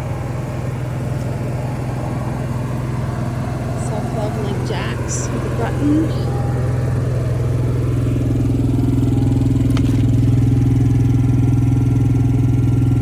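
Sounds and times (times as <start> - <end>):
higher hum: 0.0 - 11.2
engine idling: 0.0 - 13.0.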